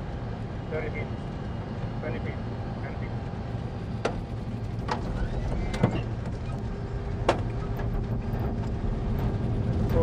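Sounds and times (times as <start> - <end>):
airplane rolling low rumble: 0.0 - 10.0.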